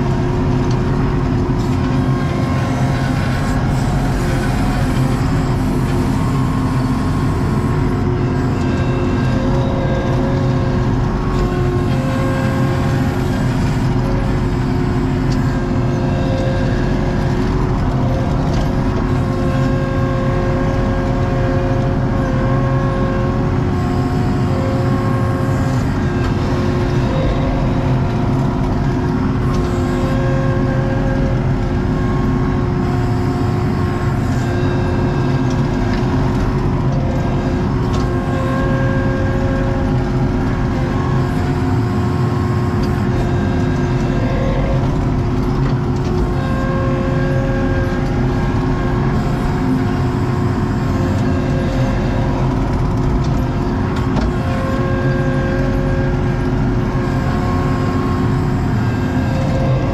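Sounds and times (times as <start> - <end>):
diesel engine under load: 0.0 - 59.9
machine whining: 0.0 - 59.9.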